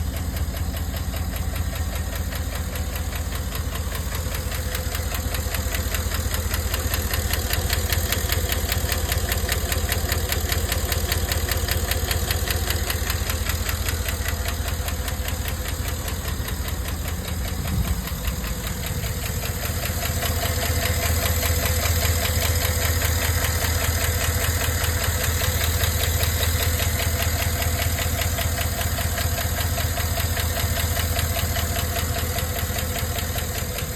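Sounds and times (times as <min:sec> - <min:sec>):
car engine idling: 0:00.0 - 0:33.9
fast even valve ticking: 0:00.0 - 0:33.9.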